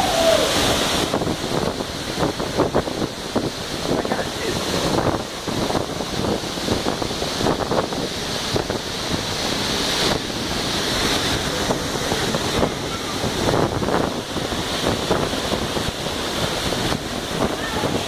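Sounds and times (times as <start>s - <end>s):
waterfall rushing: 0.0s - 18.0s
wind buffeting microphone: 0.0s - 18.0s.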